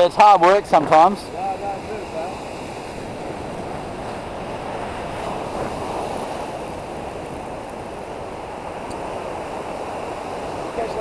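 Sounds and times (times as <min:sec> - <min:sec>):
ocean waves washing in: 0:00.0 - 0:11.0.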